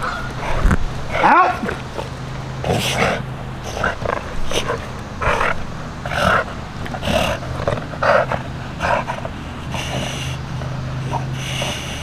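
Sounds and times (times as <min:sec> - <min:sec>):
dog breathing hard: 0:02.0 - 0:12.0.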